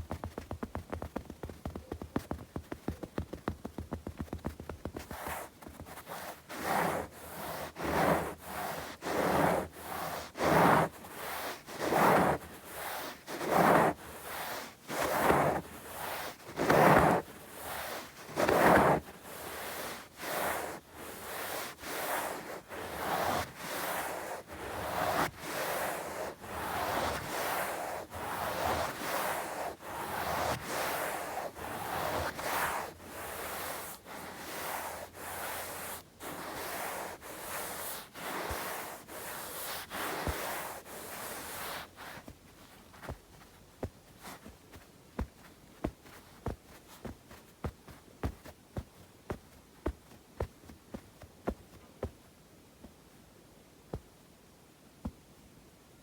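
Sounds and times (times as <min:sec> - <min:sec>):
palms rubbing together: 0:04.5 - 0:51.9.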